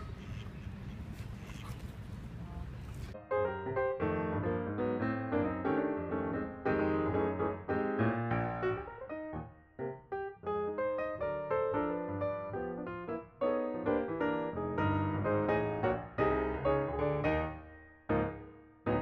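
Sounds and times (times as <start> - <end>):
piano music: 3.1 - 19.0.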